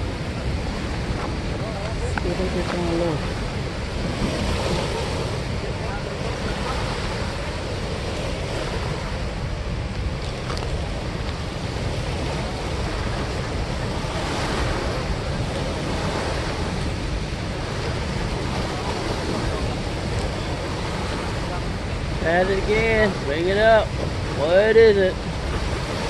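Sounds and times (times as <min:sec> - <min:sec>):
water rushing through dam spillway: 0:00.0 - 0:26.0.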